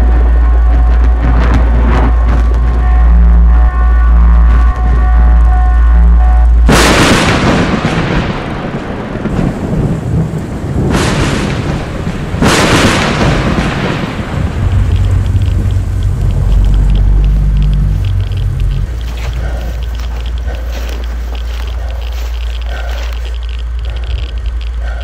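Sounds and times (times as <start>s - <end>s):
thunder crashes: 0.0s - 21.2s
low steady drone: 0.0s - 25.0s
steady rain: 0.0s - 25.0s.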